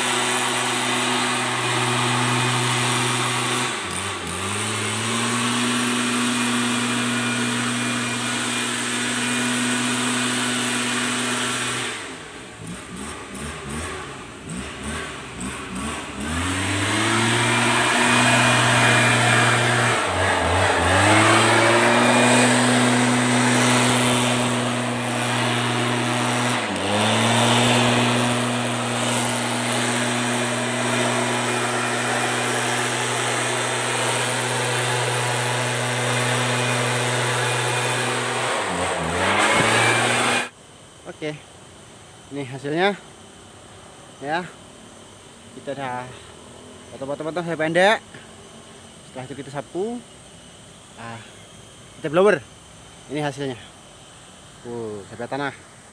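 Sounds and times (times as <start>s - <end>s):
leaf blower revving and idling: 0.0s - 55.9s.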